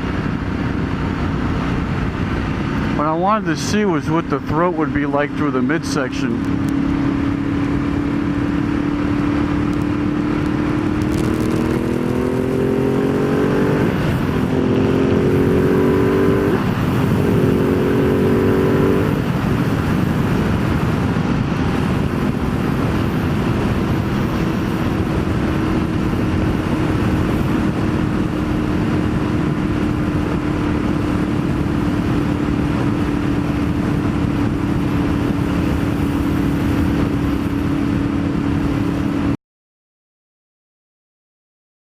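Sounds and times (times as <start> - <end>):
heavy wind rush: 0.0 - 39.4
motorcycle engine revving: 0.0 - 39.4.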